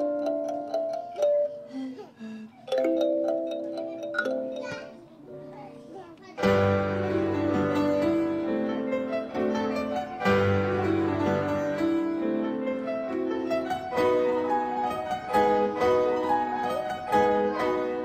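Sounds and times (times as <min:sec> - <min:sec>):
keyboard melody over low notes: 0:00.0 - 0:01.7, 0:02.7 - 0:18.0.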